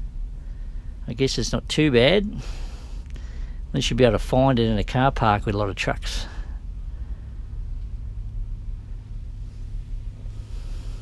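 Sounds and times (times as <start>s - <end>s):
truck cab low rumble: 0.0s - 11.0s.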